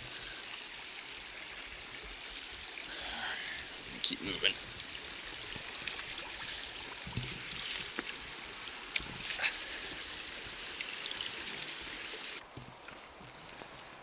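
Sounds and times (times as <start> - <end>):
mountain stream running: 0.0 - 14.0.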